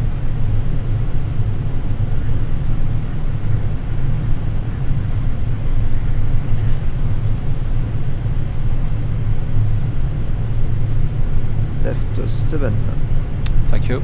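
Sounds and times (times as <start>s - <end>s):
aircraft cockpit low rumble: 0.0s - 14.0s.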